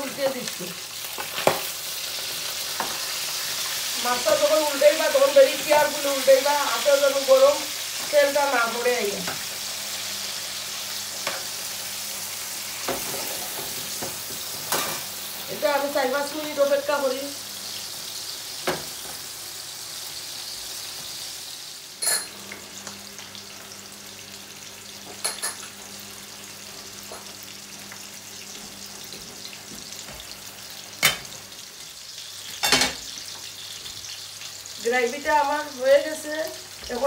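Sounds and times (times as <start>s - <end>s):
fish sizzling in hot oil: 0.0s - 37.0s.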